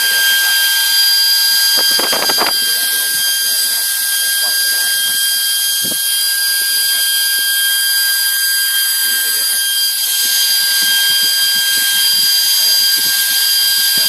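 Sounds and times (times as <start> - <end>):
fan rushing air with high whine: 0.0 - 14.0.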